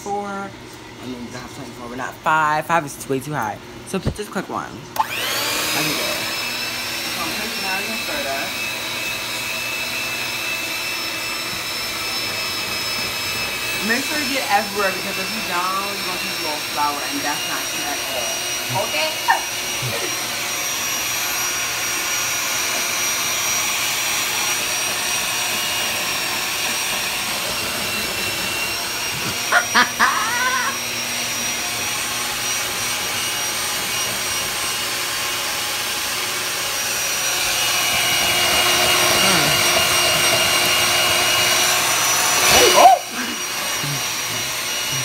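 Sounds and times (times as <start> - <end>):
electric hand mixer whirring: 0.0 - 45.0.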